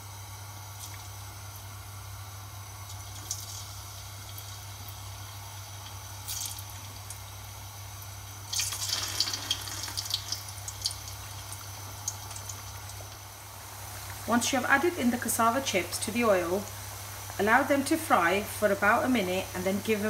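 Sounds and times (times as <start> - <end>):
chips sizzling and crackling in oil: 0.3 - 20.0.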